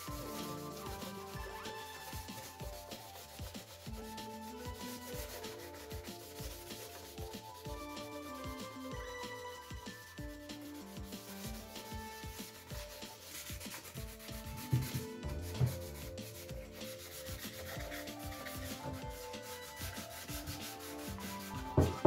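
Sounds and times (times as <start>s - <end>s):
sanding sponge rubbing plastic: 0.0s - 22.0s.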